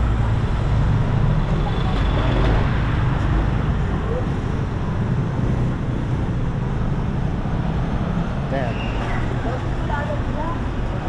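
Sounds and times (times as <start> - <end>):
cars and motorcycles running: 0.0 - 11.0.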